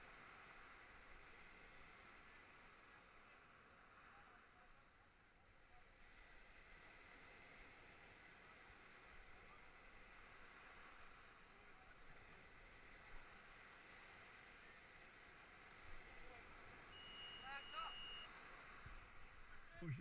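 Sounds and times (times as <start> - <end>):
faint surf on sand: 0.0 - 20.0.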